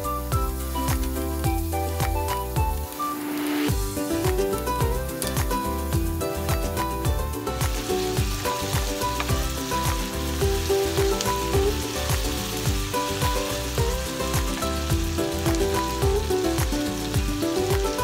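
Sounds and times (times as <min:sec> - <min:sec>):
background music with steady beat: 0:00.0 - 0:18.0
vegetables sizzling in frying pan: 0:00.0 - 0:18.0.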